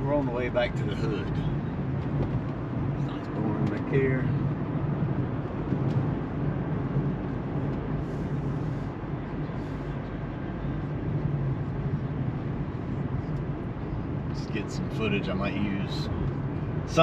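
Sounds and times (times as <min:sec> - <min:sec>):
car cabin road and engine hum: 0:00.0 - 0:17.0.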